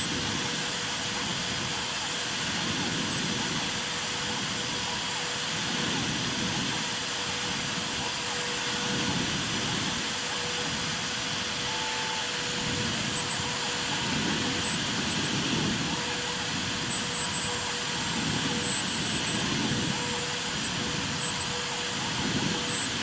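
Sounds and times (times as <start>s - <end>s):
cnc router spindle hiss and hum: 0.0s - 23.0s.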